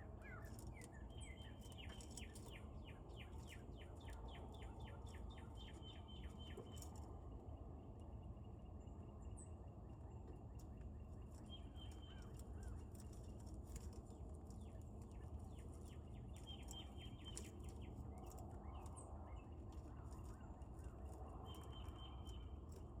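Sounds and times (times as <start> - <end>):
faint birds chirping: 0.0 - 23.0
low background rumble: 0.0 - 23.0.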